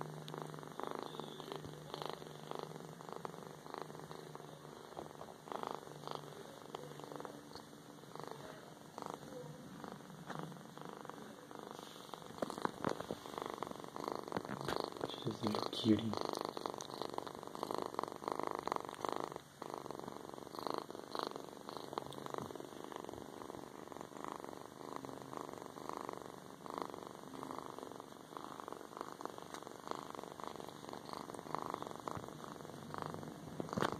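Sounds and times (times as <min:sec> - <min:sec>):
kitten purring: 0:00.0 - 0:33.9.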